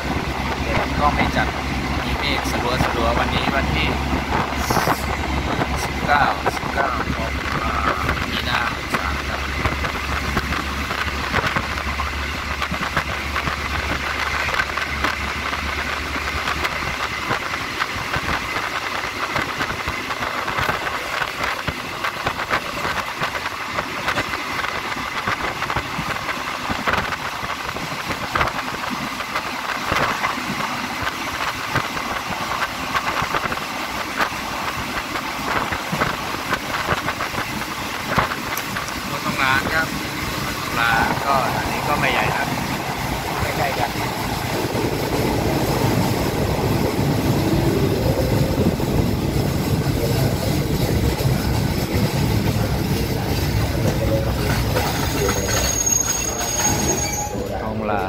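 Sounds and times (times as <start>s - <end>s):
train carriage rattling rumble: 0.0s - 58.0s
clacks and knocks: 0.5s - 57.0s.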